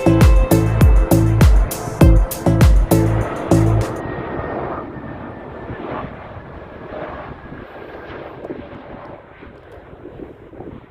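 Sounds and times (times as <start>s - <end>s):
jet engines rushing with whine: 0.0s - 10.9s.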